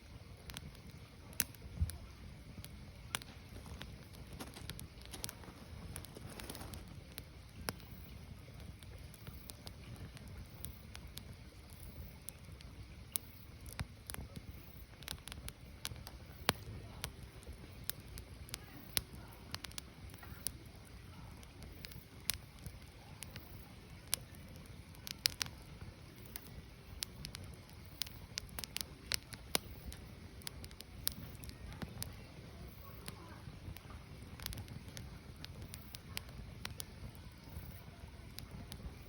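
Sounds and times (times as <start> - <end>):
firewood crackling and popping: 0.0 - 39.0.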